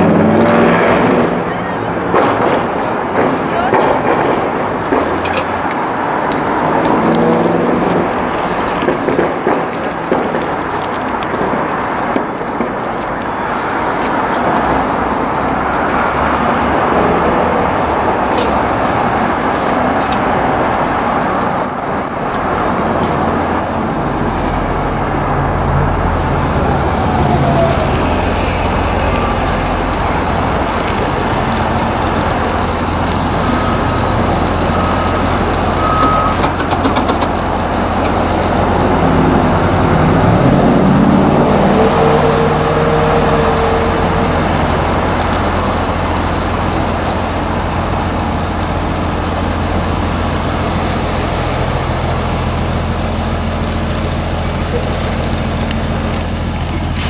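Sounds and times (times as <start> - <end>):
large engine humming: 0.0 - 57.0
vehicle approaching: 0.0 - 57.0.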